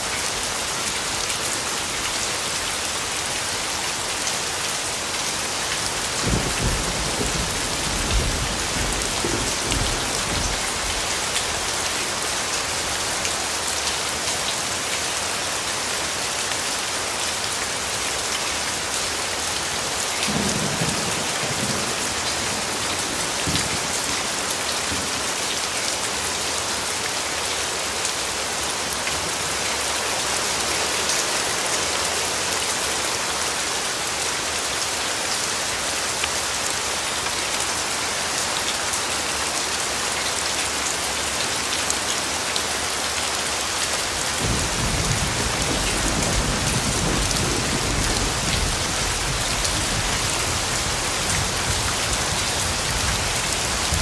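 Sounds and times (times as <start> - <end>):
heavy rain on street: 0.0 - 54.0.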